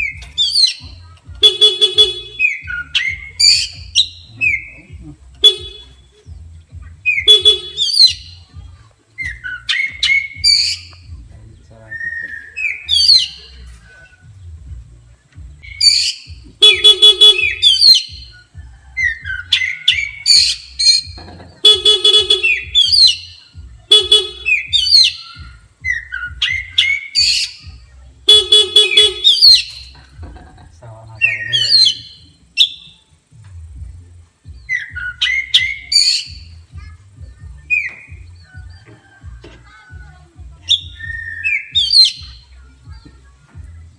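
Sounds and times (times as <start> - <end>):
bird singing chirps and whistles: 0.0 - 14.5, 15.3 - 30.2, 31.1 - 33.1, 34.4 - 40.0, 40.6 - 43.2
buzzy rasping bird notes: 0.0 - 43.9.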